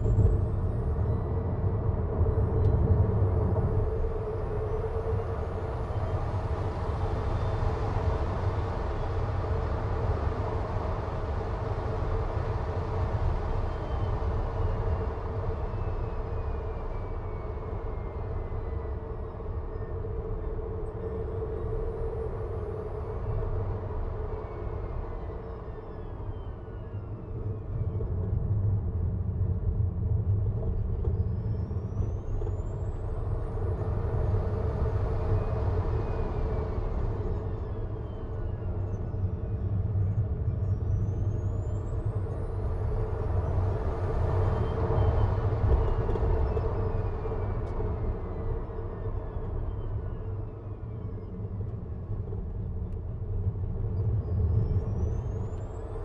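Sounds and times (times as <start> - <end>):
constant hum: 0.0 - 56.0.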